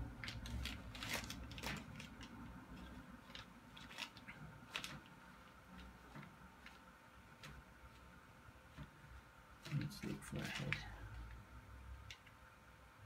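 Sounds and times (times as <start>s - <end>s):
low steady hum: 0.0s - 13.0s
soft rustles: 0.2s - 11.4s.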